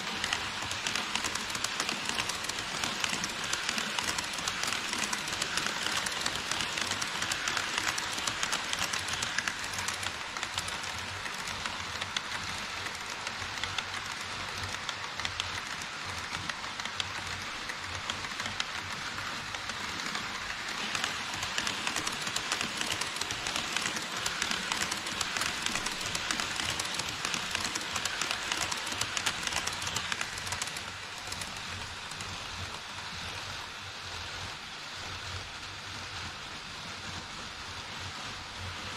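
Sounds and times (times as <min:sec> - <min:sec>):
model train wheels clicking on rails: 0:00.0 - 0:38.9.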